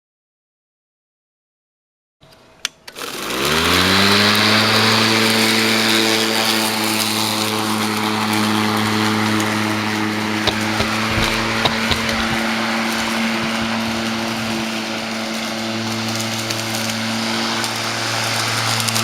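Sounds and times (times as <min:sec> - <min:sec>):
electric lawn mower motor whining: 0:02.9 - 0:19.0.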